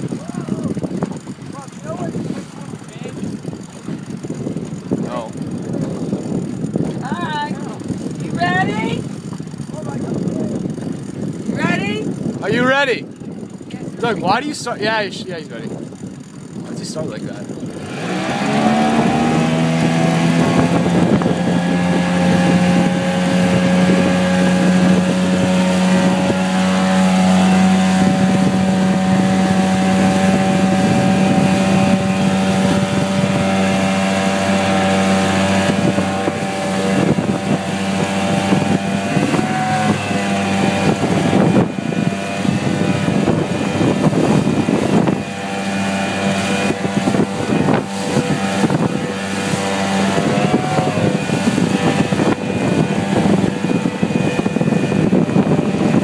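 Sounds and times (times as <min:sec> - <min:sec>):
motorboat engine: 0:00.0 - 0:56.0
wind noise on microphone: 0:00.0 - 0:56.0.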